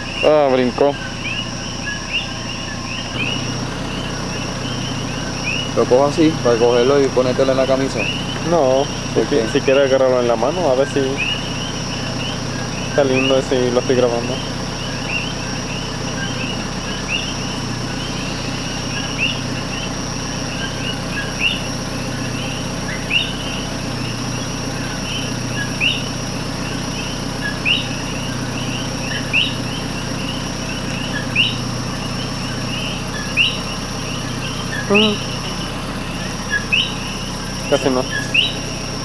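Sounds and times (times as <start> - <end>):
chorus of frog calls: 0.0 - 39.0
coqui frog calls: 0.0 - 39.0.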